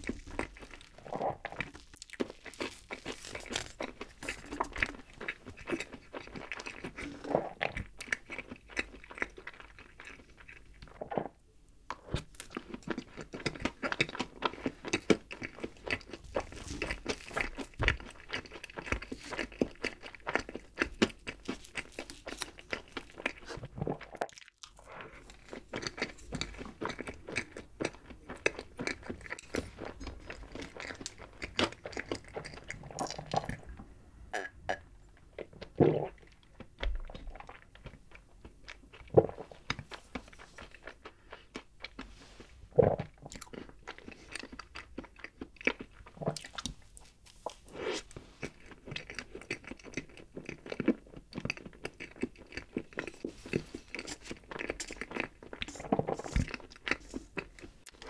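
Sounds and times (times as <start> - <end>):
chewing cake: 0.0 - 33.8, 34.4 - 58.0.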